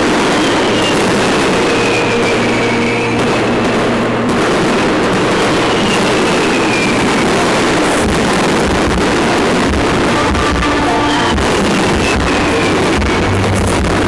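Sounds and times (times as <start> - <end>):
fireworks crackling and popping: 0.0 - 14.0
heavy low firework thuds: 0.0 - 14.0.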